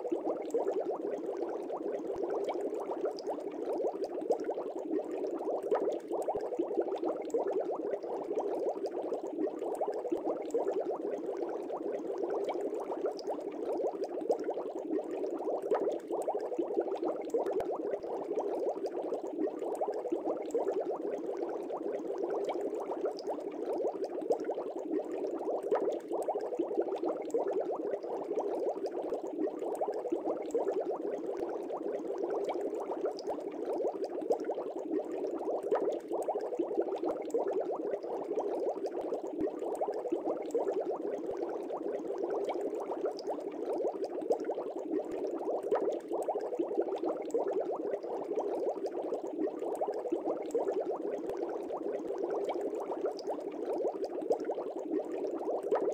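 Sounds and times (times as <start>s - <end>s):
aquarium water bubbling: 0.0s - 55.9s.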